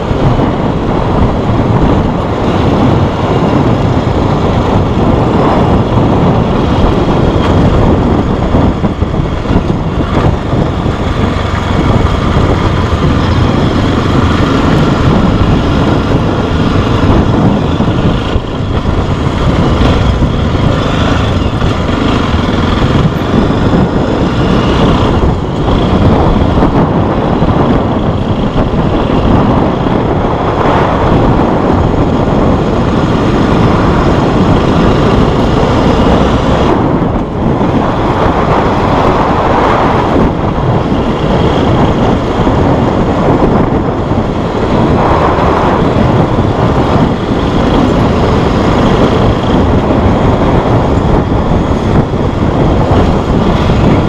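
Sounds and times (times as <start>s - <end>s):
motorcycle engine running: 0.0s - 54.0s
wind rushing on microphone: 0.0s - 54.0s.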